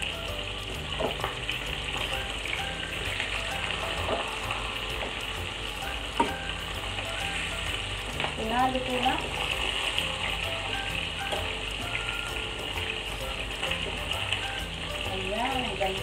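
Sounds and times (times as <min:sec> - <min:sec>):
chicken frying in oil: 0:00.0 - 0:16.0.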